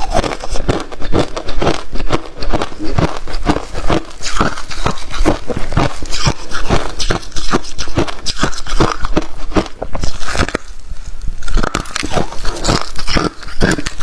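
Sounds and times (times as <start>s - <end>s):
person chewing crunchy frost: 0.0s - 14.0s.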